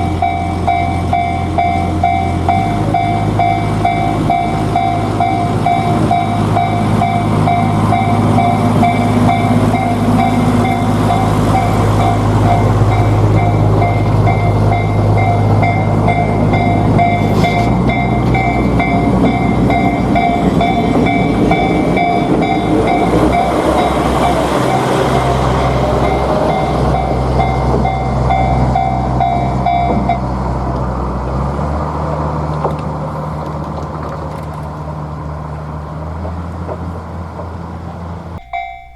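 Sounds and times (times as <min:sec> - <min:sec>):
level-crossing warning bell clanging: 0:00.0 - 0:31.5, 0:38.4 - 0:38.9
diesel railcar engine passing: 0:00.0 - 0:38.9.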